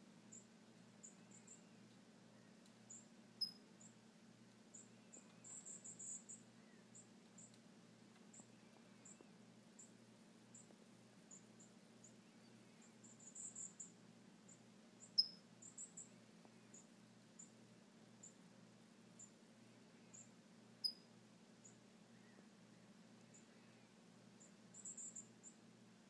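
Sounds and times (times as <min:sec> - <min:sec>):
small birds chirping: 0:00.2 - 0:18.5, 0:19.1 - 0:25.6.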